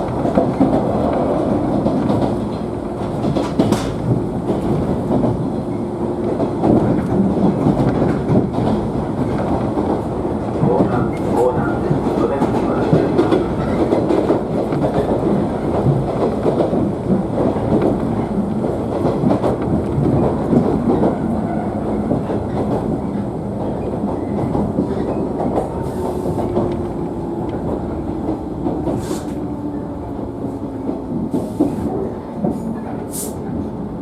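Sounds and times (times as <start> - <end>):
train wheels clickety-clack: 0.0 - 33.9.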